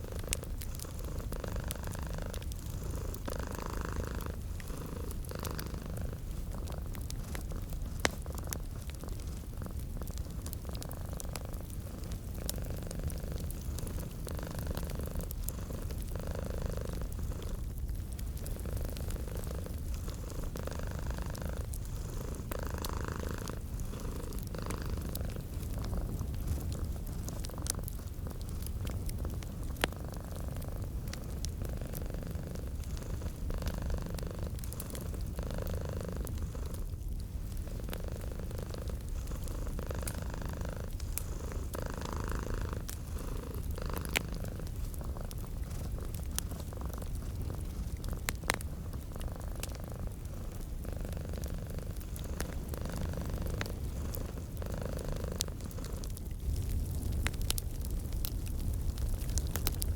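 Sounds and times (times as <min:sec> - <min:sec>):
cat purring: 0:00.0 - 0:59.9
wood fire crackling and popping: 0:00.0 - 0:59.9.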